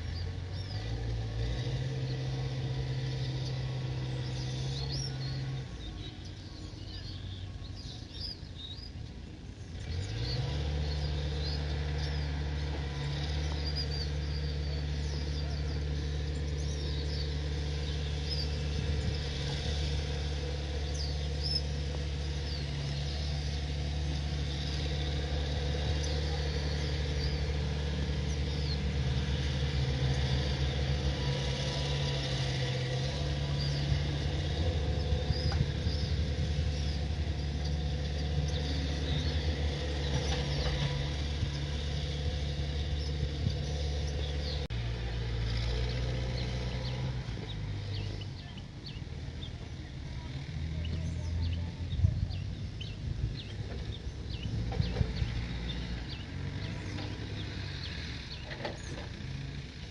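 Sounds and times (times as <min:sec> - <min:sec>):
birds chirping: 0:00.0 - 0:59.9
engine droning: 0:00.0 - 0:59.9.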